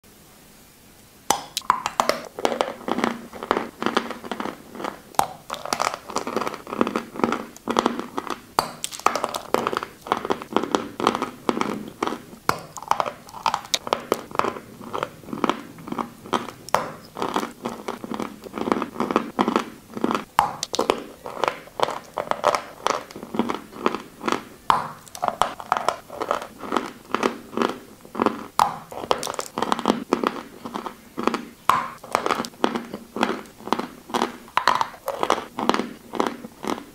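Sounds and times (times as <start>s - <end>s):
chewing crunchy chalk: 1.6s - 36.9s.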